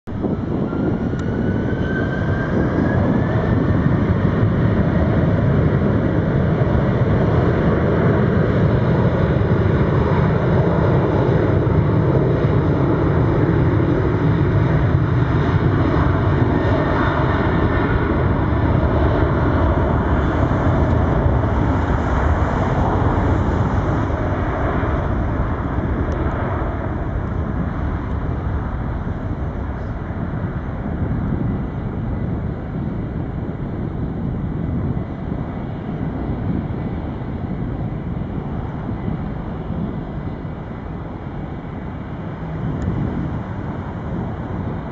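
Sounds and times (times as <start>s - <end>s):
jet engines rumbling with whine: 0.1s - 44.9s.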